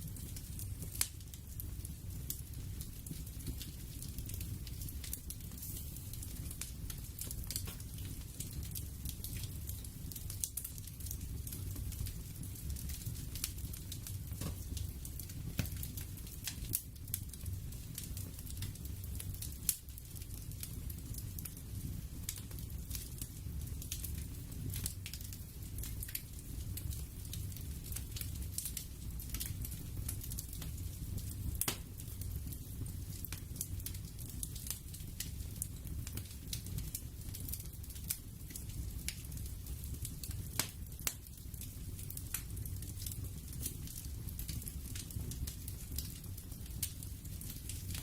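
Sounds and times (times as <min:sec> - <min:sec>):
fire pops and snaps: 0:00.0 - 0:48.0
low fire rumble: 0:00.0 - 0:48.0.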